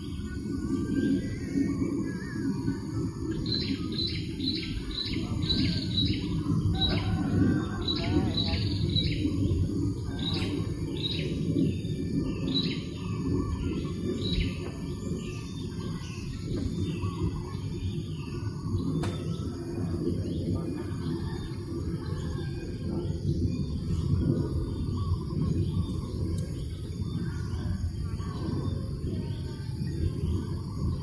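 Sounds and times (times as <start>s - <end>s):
low rumble of breeze: 0.0s - 31.0s
small birds chirping: 0.0s - 31.0s.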